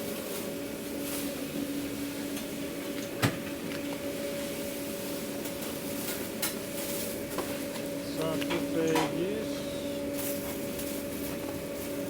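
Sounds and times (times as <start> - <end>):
kitchen equipment electrical hum: 0.0 - 12.0.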